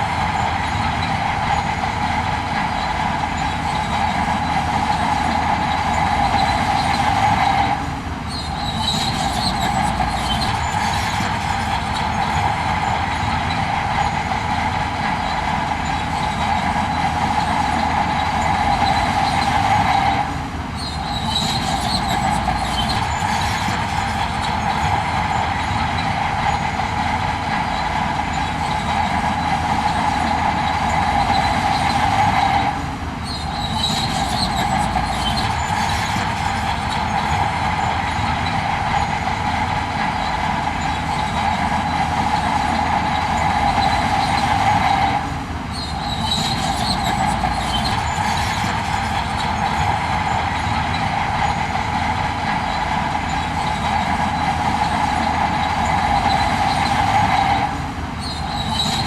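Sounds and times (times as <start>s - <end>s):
machinery rumble: 0.0s - 59.0s
machinery whine: 0.0s - 59.0s.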